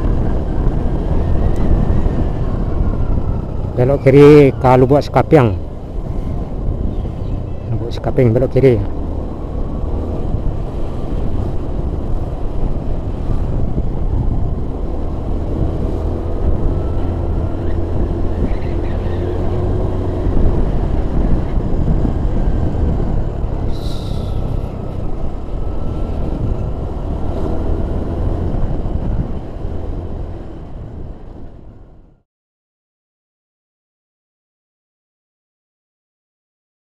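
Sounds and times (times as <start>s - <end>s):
engine whine: 0.0s - 32.2s
engine and road rumble: 0.0s - 32.3s.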